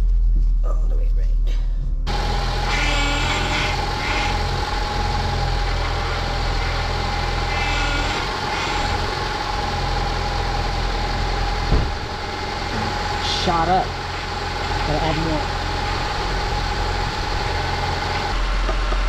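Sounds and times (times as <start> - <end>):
car engine idling with whine: 1.5 - 19.0
power steering pump harsh noise: 2.1 - 19.0.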